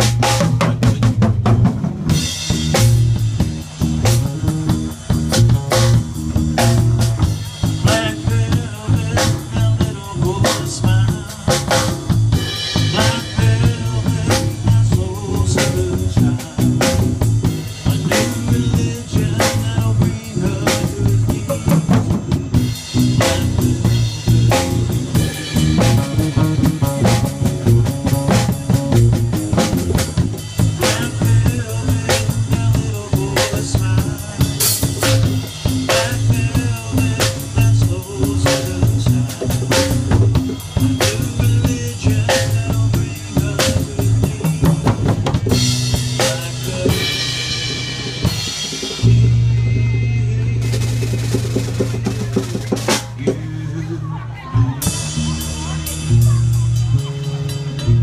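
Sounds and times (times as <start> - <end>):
deep bass: 0.0 - 58.0
guitar playing: 2.1 - 51.0.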